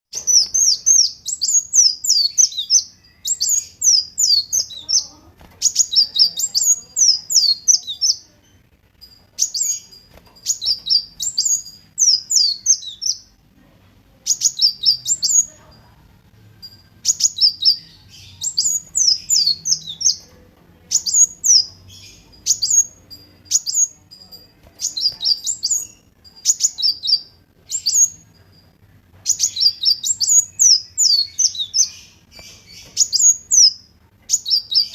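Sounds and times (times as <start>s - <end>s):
bird singing high sharp chirps: 0.1s - 8.6s, 9.2s - 13.4s, 14.2s - 15.6s, 16.9s - 28.4s, 29.2s - 34.9s.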